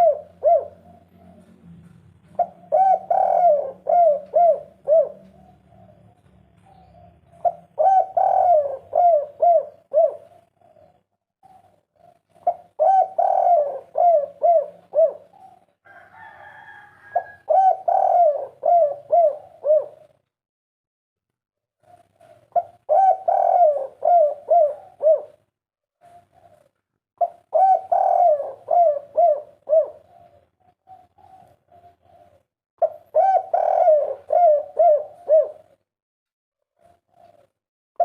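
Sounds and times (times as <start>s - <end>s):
dove cooing: 0.0s - 20.3s, 21.8s - 35.9s, 36.7s - 37.6s.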